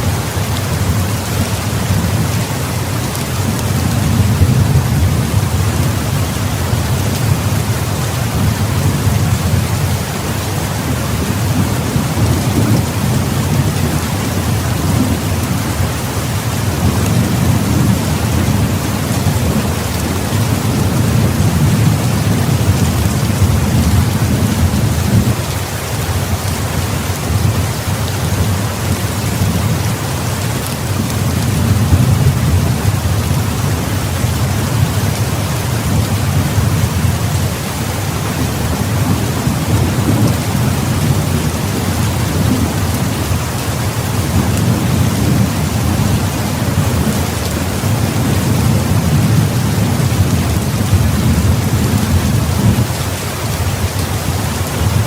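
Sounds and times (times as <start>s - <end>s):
heavy rain falling: 0.0s - 55.0s
low thunder rumble: 3.4s - 25.4s, 30.9s - 53.0s.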